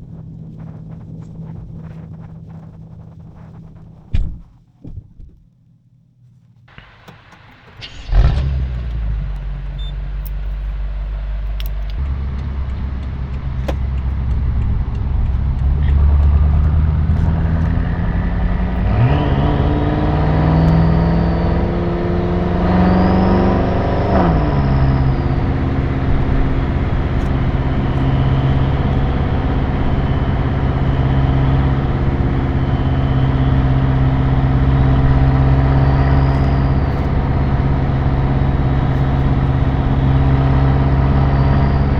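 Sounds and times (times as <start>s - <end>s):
car engine revving and idling: 0.0s - 4.2s, 6.6s - 41.9s
car pulling away: 6.7s - 41.9s.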